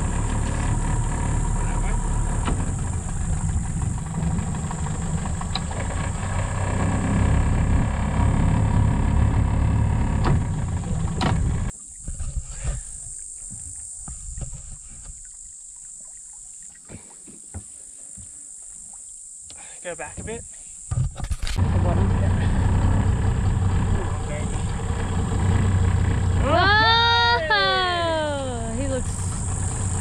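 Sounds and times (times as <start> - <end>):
outboard motor idling: 0.0 - 16.3, 21.4 - 30.0.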